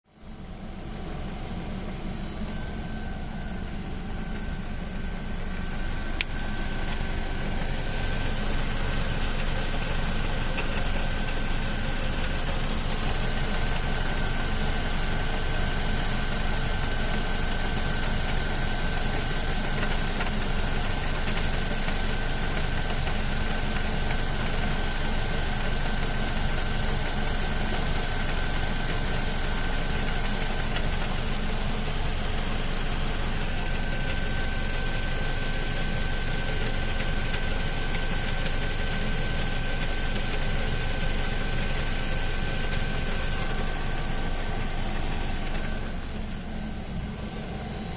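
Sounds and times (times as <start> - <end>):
car engine idling: 0.1 - 47.9.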